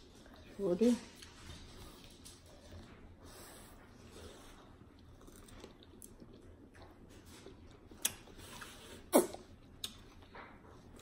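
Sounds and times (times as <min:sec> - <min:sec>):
wet chewing mouth sounds: 0:01.1 - 0:11.0.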